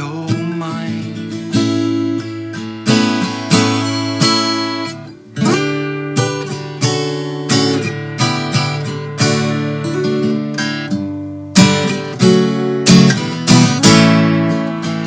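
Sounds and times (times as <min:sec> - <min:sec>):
acoustic guitar chords plucked: 0:00.0 - 0:15.0.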